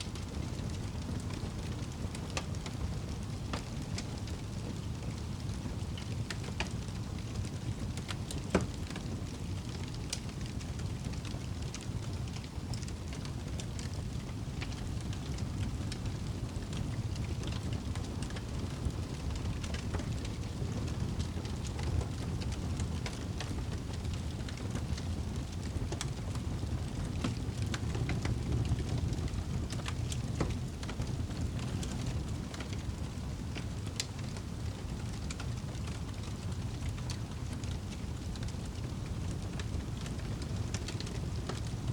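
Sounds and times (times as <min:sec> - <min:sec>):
campfire crackling and popping: 0:00.1 - 0:41.9.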